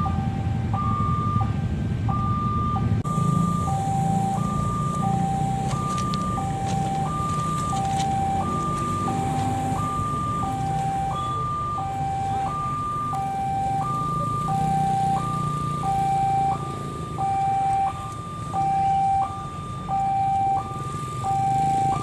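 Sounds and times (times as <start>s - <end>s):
steady low rumble: 0.0s - 20.7s
two-tone crossing alarm: 0.0s - 22.0s.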